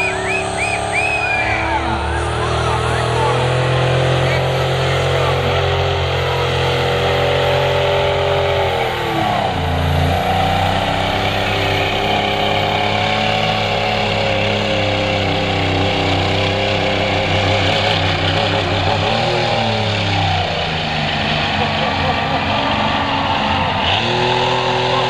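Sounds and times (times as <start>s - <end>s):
tractor engine under load: 0.0s - 25.0s.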